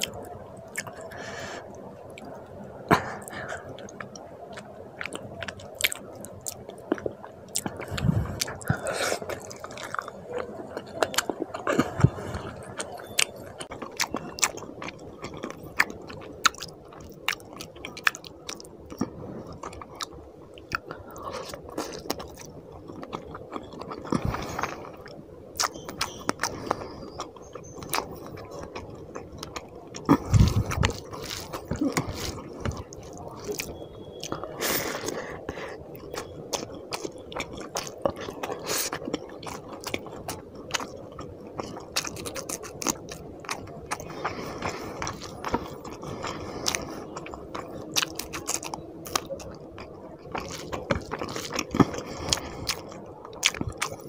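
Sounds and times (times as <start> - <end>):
close chewing and mouth clicks: 0.0 - 54.0.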